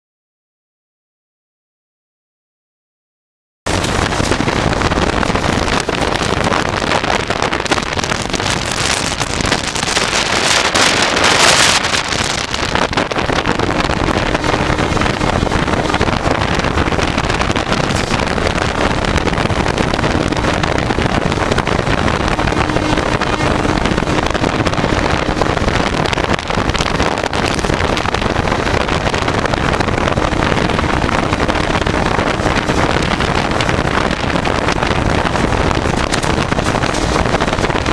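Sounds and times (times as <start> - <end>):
train running noise: 3.7 - 37.9
wind buffeting microphone: 3.7 - 37.9.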